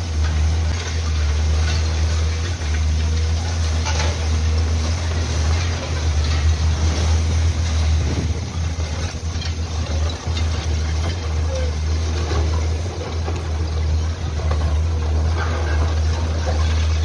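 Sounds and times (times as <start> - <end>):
concrete breaking and rubble falling: 0.0 - 17.0
diesel engine droning: 0.0 - 17.0.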